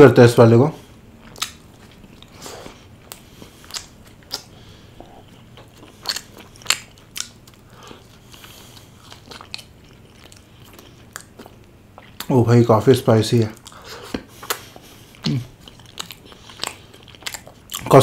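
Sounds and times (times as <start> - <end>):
crisp chewing crunches: 1.2 - 12.4, 13.4 - 18.0.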